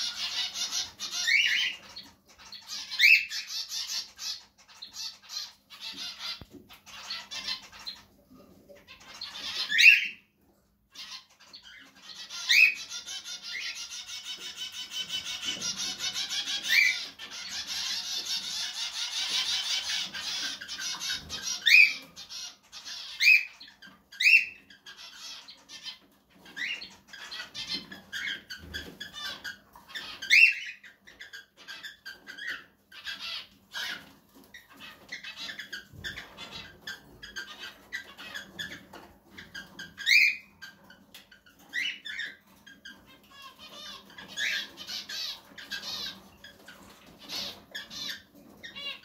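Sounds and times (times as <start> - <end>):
cockatiels chattering and chirping: 0.0 - 49.0.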